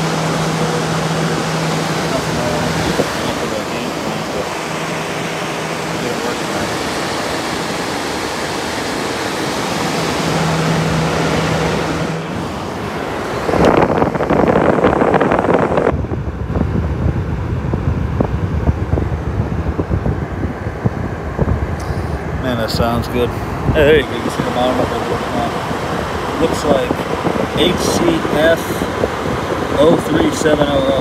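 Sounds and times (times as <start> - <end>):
low hum: 0.0 - 29.8
air conditioner fan rushing: 0.0 - 31.0
wind and handling on microphone: 0.0 - 31.0.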